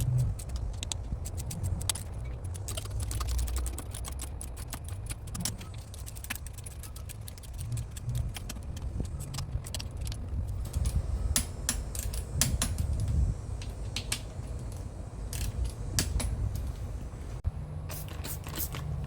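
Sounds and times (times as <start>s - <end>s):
hand tools clicking and rattling: 0.0s - 16.7s
low rumble: 0.0s - 17.8s.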